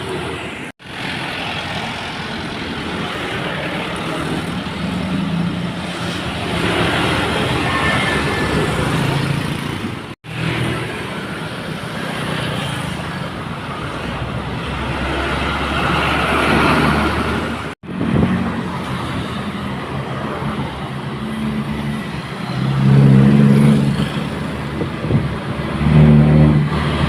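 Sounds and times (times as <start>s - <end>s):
road noise on wet road: 0.0s - 27.0s
truck engine drone: 0.0s - 27.0s.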